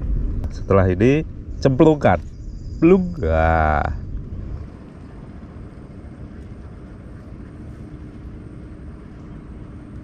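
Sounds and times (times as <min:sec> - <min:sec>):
faint steady hum: 0:00.0 - 0:10.0
wind rumbling on microphone: 0:00.0 - 0:10.0.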